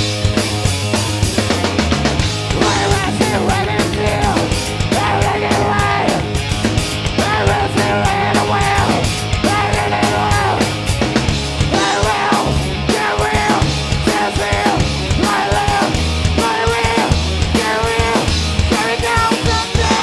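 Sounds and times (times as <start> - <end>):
bending melodic guitar lines: 0.0 - 20.0
heavy bass line: 0.0 - 20.0
fast drum hits: 0.4 - 20.0.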